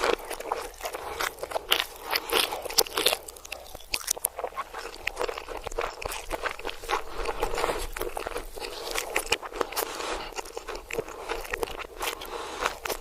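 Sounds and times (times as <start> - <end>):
reversed crunchy chewing: 0.0 - 13.0.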